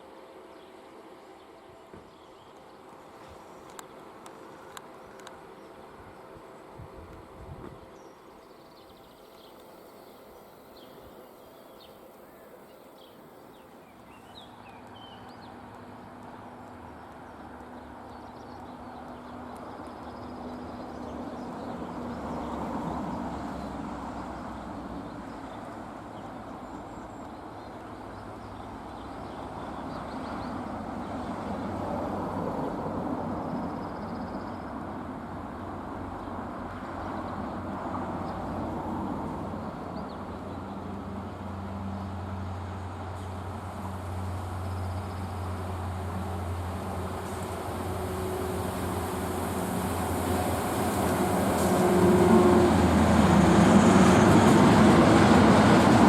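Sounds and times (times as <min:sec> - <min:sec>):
diesel train approaching: 0:00.0 - 0:56.0.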